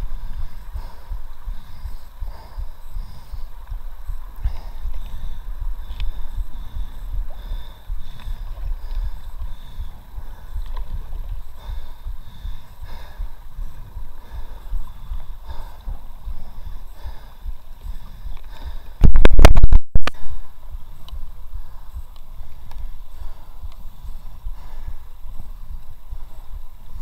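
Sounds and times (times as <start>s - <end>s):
wind and water rumble on microphone: 0.0s - 27.0s.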